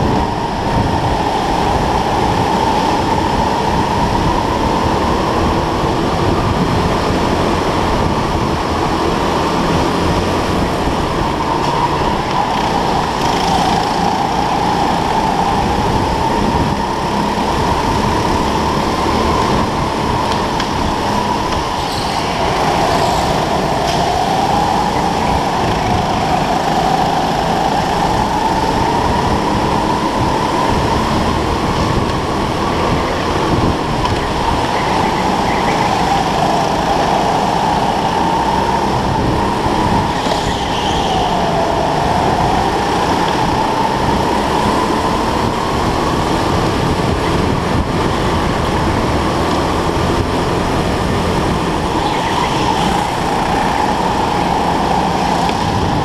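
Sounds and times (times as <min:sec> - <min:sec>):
go-kart motor whine: 0:00.0 - 0:56.0.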